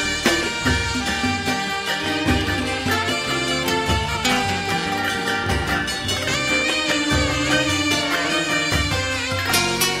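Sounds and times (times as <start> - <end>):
live band instrumental music: 0.0 - 10.0.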